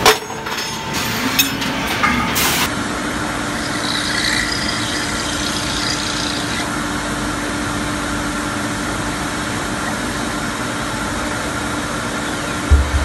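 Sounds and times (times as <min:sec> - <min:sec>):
machining centre humming: 0:00.0 - 0:13.0.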